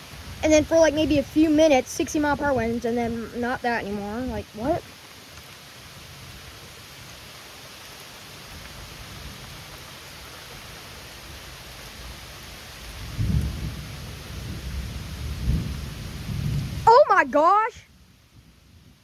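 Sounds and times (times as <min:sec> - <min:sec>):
thunderclap and rolling rumble: 0:00.0 - 0:05.0, 0:08.4 - 0:19.0
steady rain hiss: 0:00.0 - 0:19.0.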